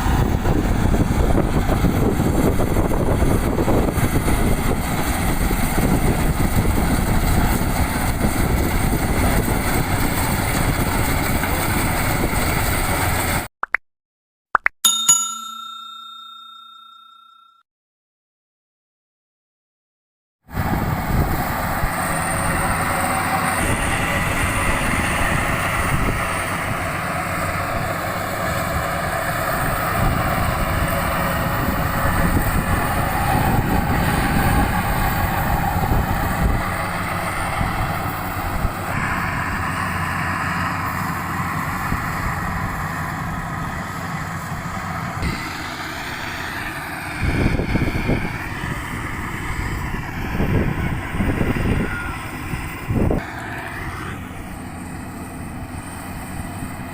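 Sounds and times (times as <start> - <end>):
combine harvester running: 0.0 - 13.5, 20.5 - 56.9.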